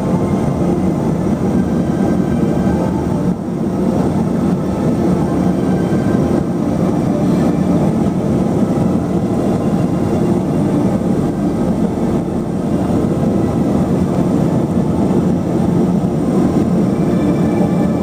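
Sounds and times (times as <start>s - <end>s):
turboprop engines droning: 0.0s - 18.0s.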